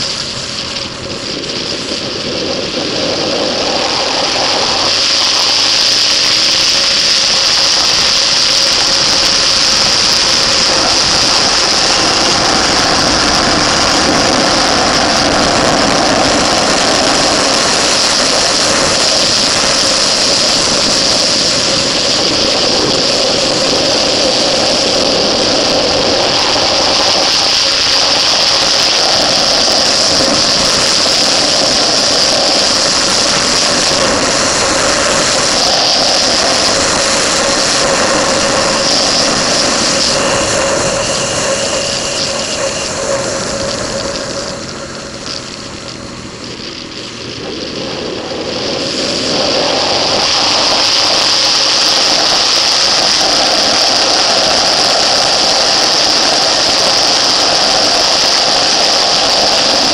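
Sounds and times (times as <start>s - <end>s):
motorcycle engine accelerating: 0.0s - 59.9s
wind rush over microphone: 0.0s - 59.9s.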